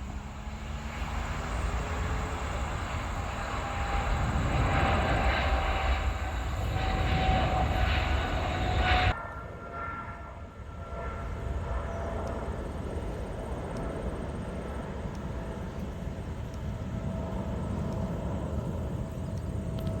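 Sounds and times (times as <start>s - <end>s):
distant jet engines rumbling: 0.0s - 20.0s.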